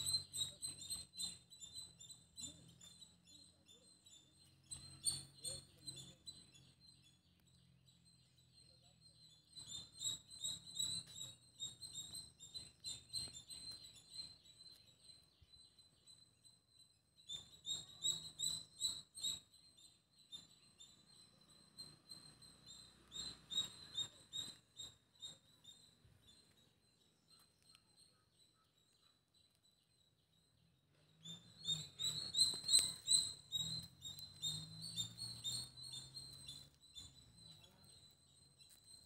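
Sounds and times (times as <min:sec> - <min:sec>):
small bird chirping rapidly: 0:00.0 - 0:39.0.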